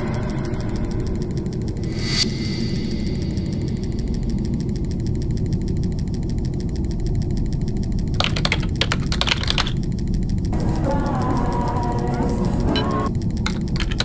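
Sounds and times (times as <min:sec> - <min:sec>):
machine rumbling and clicking: 0:00.0 - 0:14.0.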